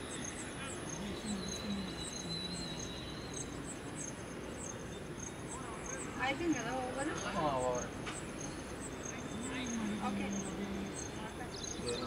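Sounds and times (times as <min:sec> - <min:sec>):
insect chirping: 0:00.0 - 0:12.0
outdoor background noise: 0:00.0 - 0:12.0.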